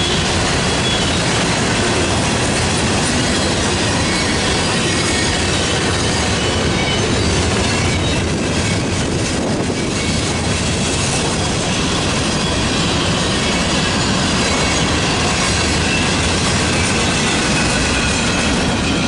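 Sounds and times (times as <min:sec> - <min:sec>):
freight train wheels rumbling and rattling: 0:00.0 - 0:19.0.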